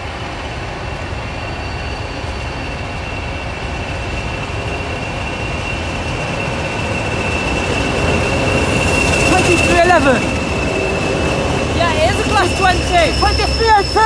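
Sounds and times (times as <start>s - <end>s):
diesel locomotive running: 0.0s - 14.0s
high wheel squeal: 0.2s - 14.0s.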